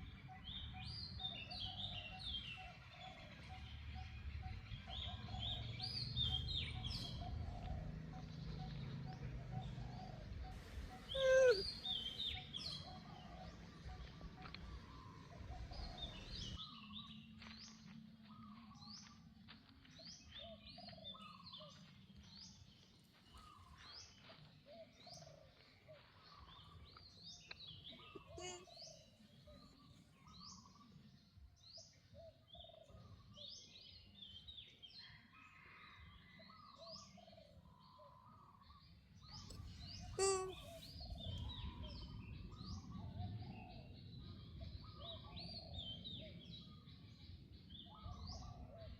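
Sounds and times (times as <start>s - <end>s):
small birds chirping: 0.0s - 35.8s, 36.5s - 48.9s.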